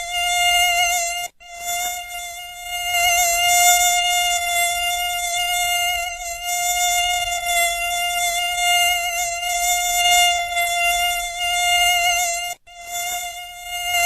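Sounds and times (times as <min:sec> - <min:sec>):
mosquito buzzing: 0:00.0 - 0:14.0.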